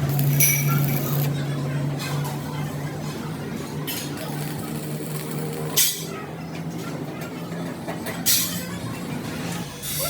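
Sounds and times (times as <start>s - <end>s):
low machine hum: 0.0s - 9.9s.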